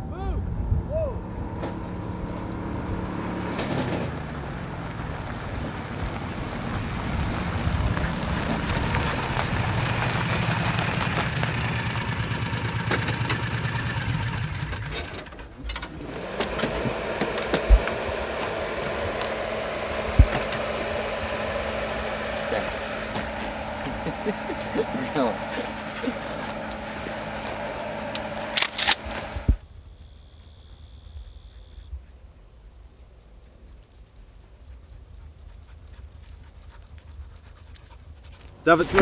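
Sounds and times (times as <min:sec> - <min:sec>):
vehicle engine running: 0:00.0 - 0:31.6, 0:33.0 - 0:39.0.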